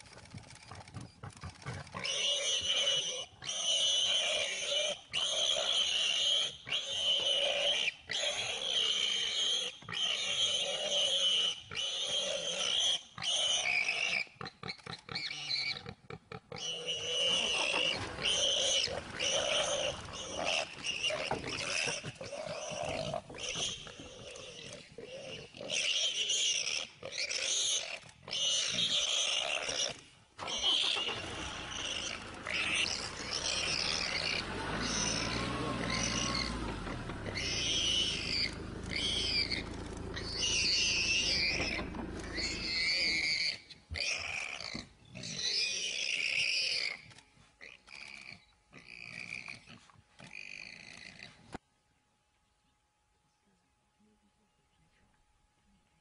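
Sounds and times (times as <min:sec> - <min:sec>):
animals snarling and crying: 0:01.5 - 0:51.5.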